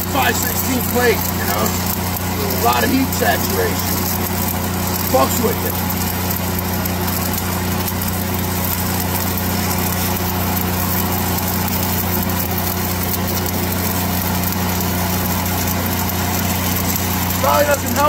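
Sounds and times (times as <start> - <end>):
welder engine humming: 0.0 - 18.0
welding arc crackling: 0.0 - 18.0.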